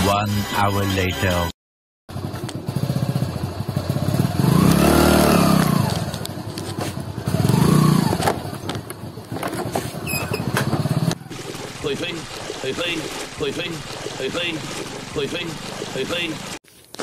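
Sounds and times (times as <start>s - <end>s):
motorcycle engine revving: 2.1s - 16.6s.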